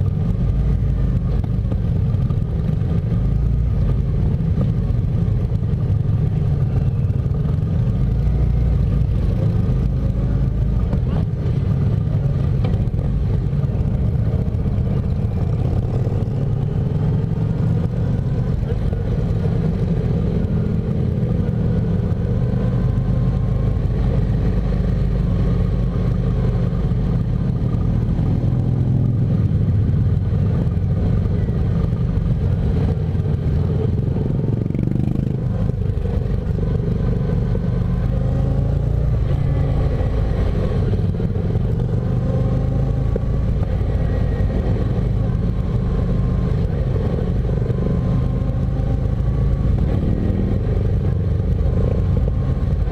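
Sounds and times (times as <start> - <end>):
motorcycle engine running: 0.0 - 52.9
other motorcycles riding: 0.0 - 52.9.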